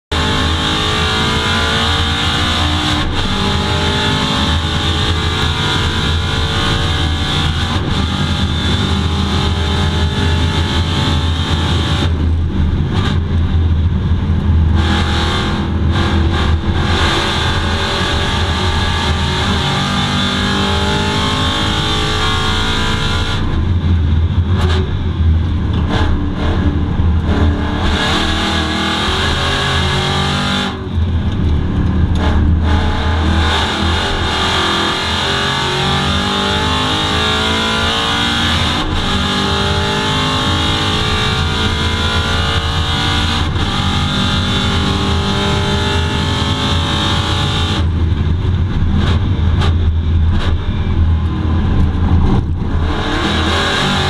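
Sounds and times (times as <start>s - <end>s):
race car engine revving: 0.1s - 54.0s.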